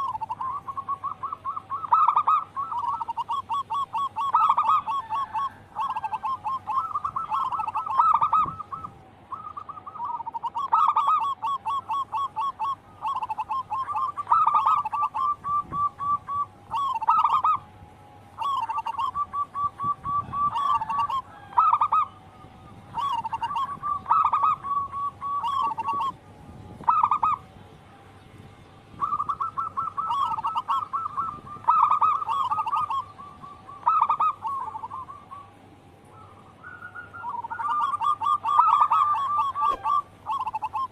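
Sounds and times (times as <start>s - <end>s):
dove cooing: 0.0s - 27.5s, 28.9s - 40.9s.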